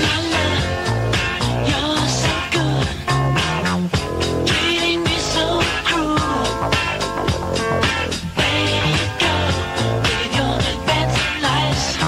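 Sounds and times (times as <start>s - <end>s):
person singing: 0.0s - 3.2s, 3.8s - 6.9s, 8.2s - 12.0s
pop song with bass and guitar: 0.0s - 12.0s.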